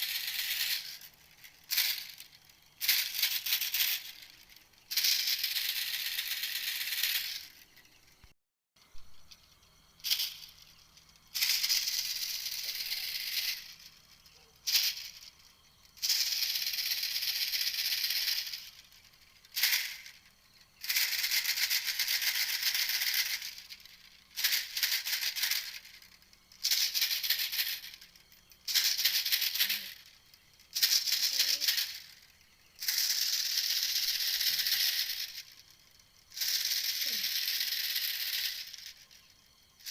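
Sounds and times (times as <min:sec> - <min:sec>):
recorded bird call buzzy rattle: 0:00.0 - 0:39.9.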